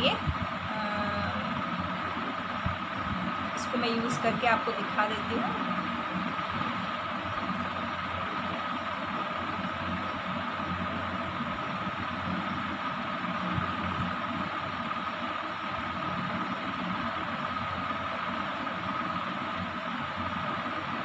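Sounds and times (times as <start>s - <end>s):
electric fan whirring: 0.0s - 21.0s.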